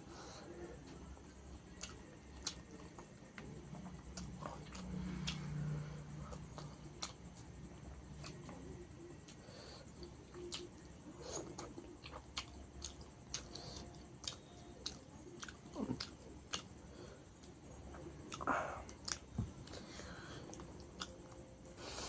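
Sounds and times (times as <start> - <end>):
quiet chewing: 0.1 - 22.0.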